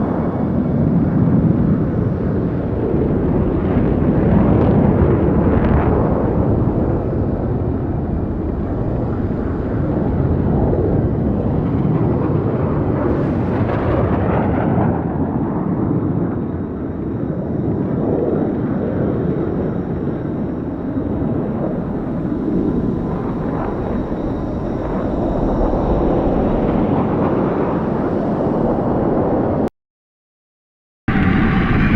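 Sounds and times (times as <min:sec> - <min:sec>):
spacecraft engine low rumble: 0:00.0 - 0:29.7, 0:31.1 - 0:31.9.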